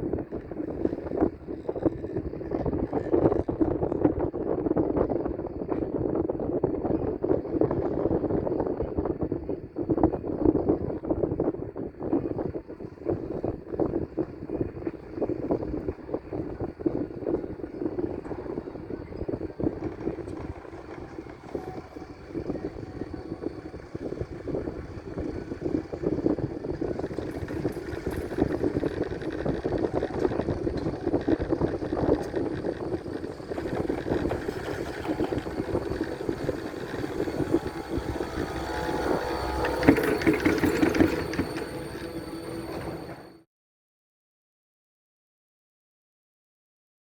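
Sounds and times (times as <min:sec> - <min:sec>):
chairlift mechanical rumble: 0:00.0 - 0:43.4
faint high whine: 0:00.0 - 0:43.5.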